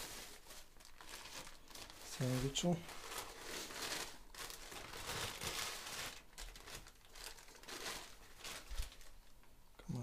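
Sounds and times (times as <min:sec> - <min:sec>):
paper wrapper crinkling: 0:00.0 - 0:09.4.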